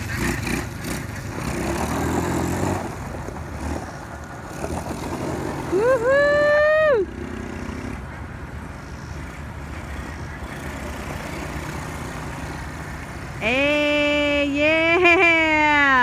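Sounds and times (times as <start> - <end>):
quad engine revving and idling: 0.0 - 16.0.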